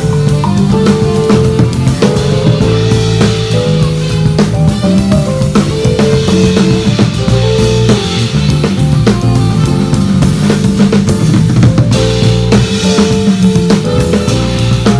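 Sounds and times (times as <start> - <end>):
bass line: 0.0 - 14.9
live band playing funk: 0.0 - 14.9.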